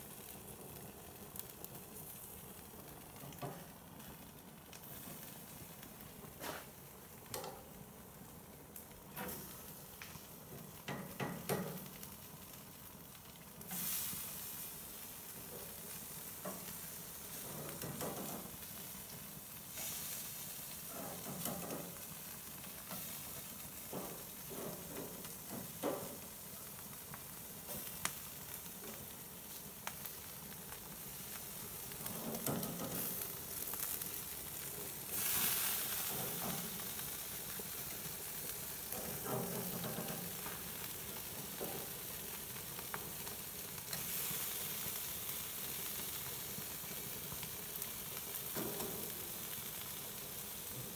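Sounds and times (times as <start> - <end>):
fish sizzling on a grill: 0.0 - 50.9.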